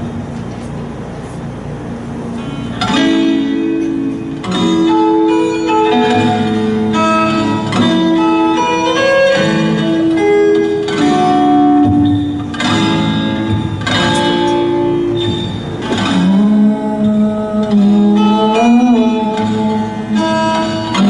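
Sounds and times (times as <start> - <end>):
keyboard playing slow chords: 2.3 - 21.0.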